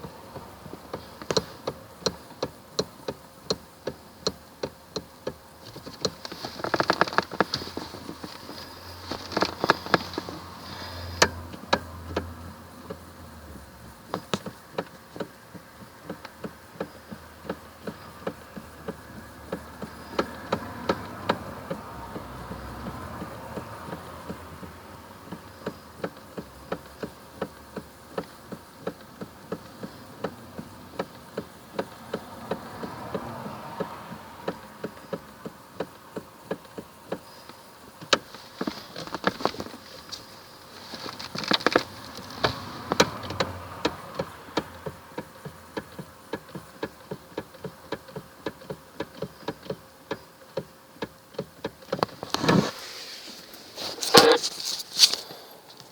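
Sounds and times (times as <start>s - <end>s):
steering knocking: 0.0s - 52.8s.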